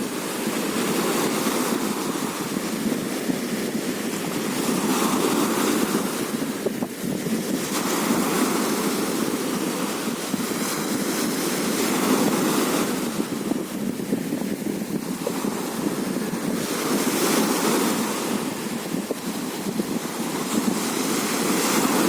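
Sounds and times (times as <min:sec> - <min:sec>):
sea waves washing onto beach: 0:00.0 - 0:22.0
wind noise on microphone: 0:00.0 - 0:22.0.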